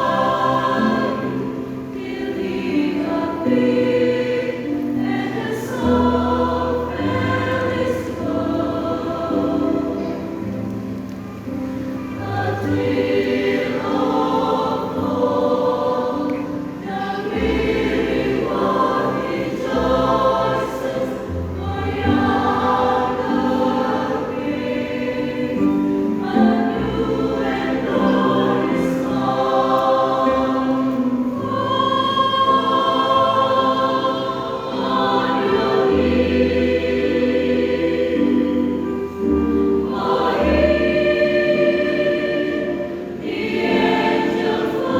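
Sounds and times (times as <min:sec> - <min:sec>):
church choir singing a hymn: 0:00.0 - 0:44.9.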